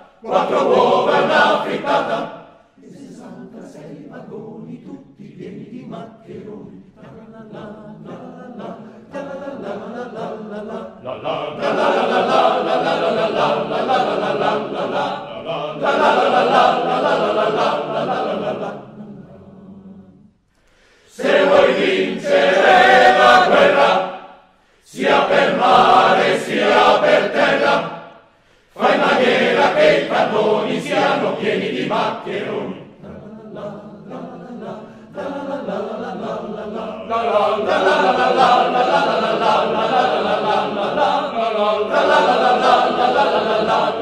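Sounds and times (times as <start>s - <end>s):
choir singing a cappella: 0.0s - 44.0s.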